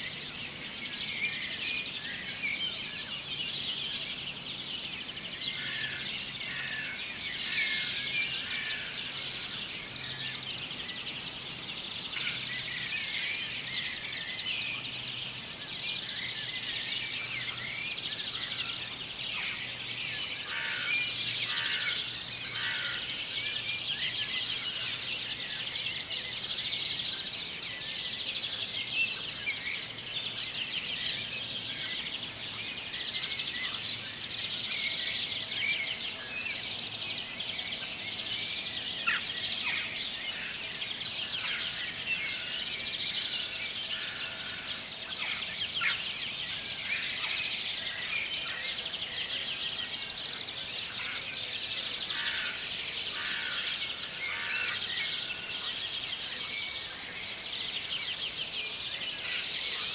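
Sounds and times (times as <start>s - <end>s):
birds singing: 0.0s - 59.9s.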